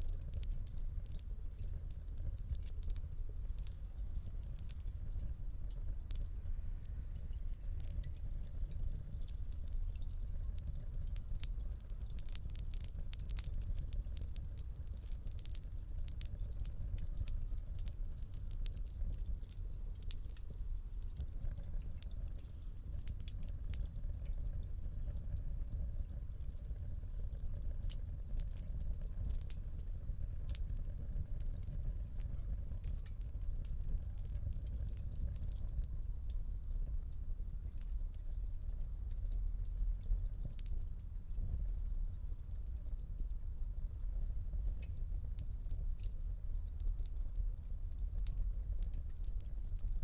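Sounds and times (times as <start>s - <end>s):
low rumble of flames: 0.0s - 50.0s
wood fire crackling: 0.0s - 50.0s.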